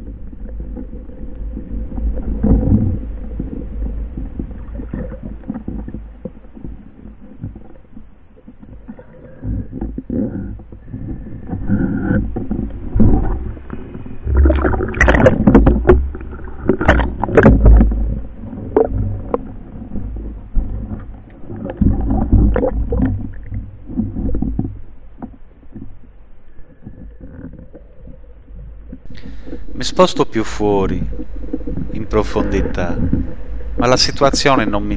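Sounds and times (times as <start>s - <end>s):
underwater water rushing and gurgling: 0.0s - 34.9s.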